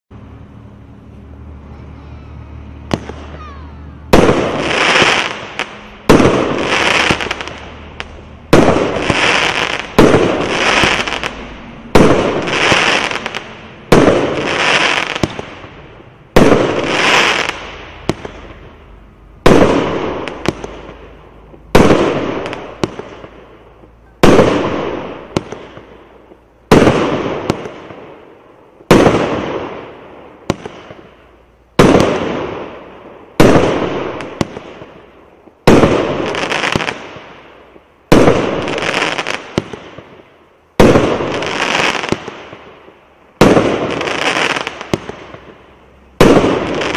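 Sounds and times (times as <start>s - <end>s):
fireworks shots banging: 2.6s - 46.9s.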